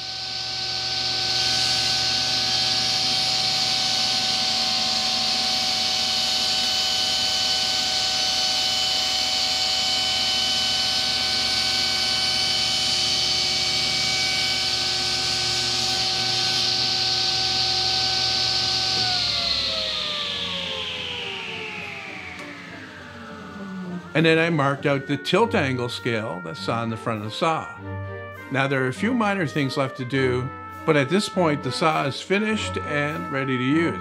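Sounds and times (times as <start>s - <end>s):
table saw cutting wood: 0.0s - 34.0s.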